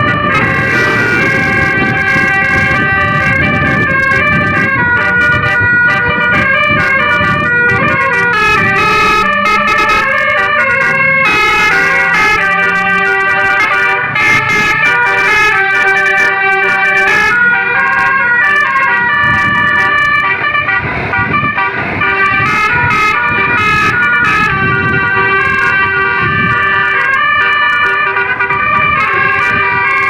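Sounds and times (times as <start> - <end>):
bus horn playing a melody: 0.0 - 30.0.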